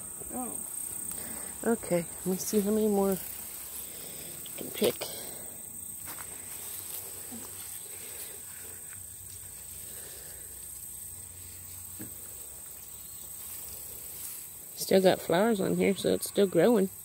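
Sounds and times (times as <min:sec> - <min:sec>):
crickets chirring: 0:00.0 - 0:17.0
plants rustling: 0:00.8 - 0:16.0.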